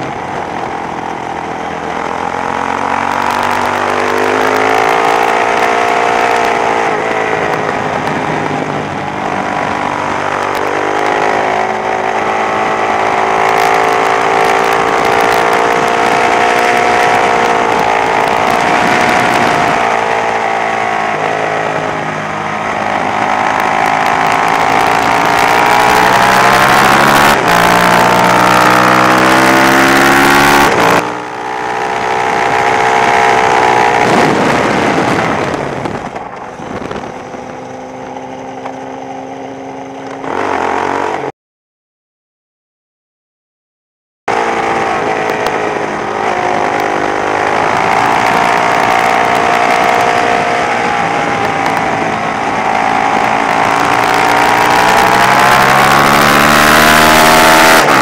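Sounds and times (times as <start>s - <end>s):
motorcycle engine accelerating: 0.0s - 41.3s, 44.3s - 58.0s
wind and road rush: 0.0s - 41.3s, 44.3s - 58.0s.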